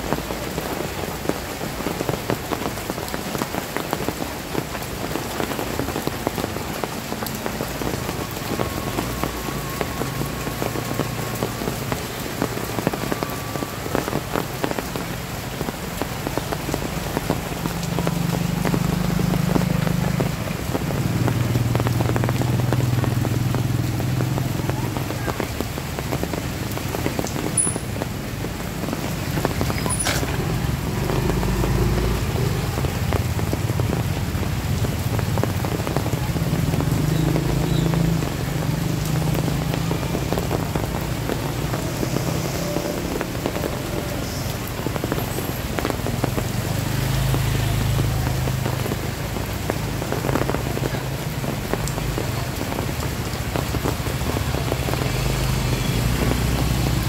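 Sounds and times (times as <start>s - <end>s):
heavy rain on flooded street: 0.0s - 57.0s.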